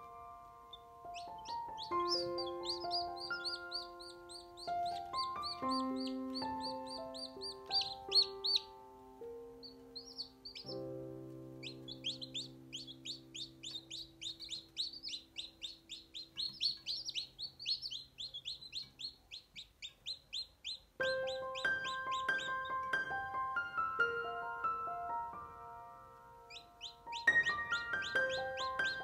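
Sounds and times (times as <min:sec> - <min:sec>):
chicks peeping: 0:00.0 - 0:23.8, 0:26.2 - 0:29.0
held keyboard notes music: 0:00.0 - 0:29.0.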